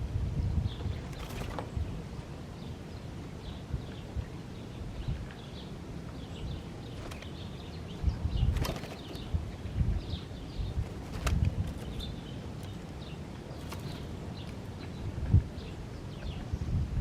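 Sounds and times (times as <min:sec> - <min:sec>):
small birds chirping: 0:00.4 - 0:16.8.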